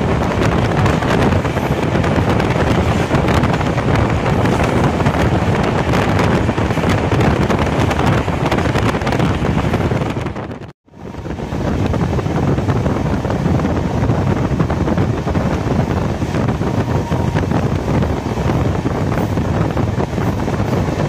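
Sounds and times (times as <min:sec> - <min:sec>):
train rumbling at speed: 0:00.0 - 0:21.0
wind buffeting microphone: 0:00.0 - 0:21.0.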